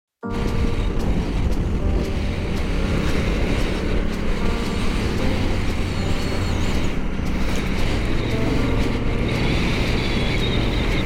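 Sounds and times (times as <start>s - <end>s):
motorcycle engine: 0.3s - 11.0s
wind buffeting microphone: 0.3s - 11.0s.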